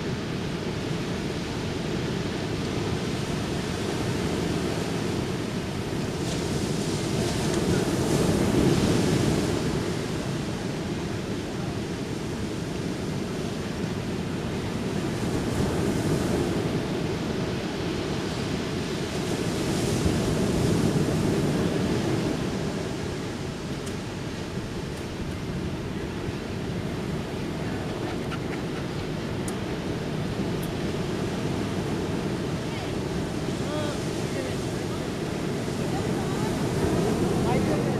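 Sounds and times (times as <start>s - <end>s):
ocean waves breaking on beach: 0.0s - 37.9s.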